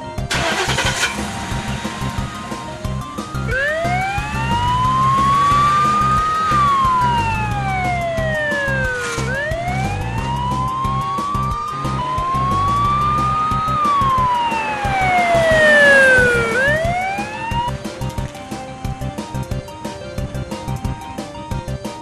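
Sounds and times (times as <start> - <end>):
police siren wailing: 0.3 - 21.0.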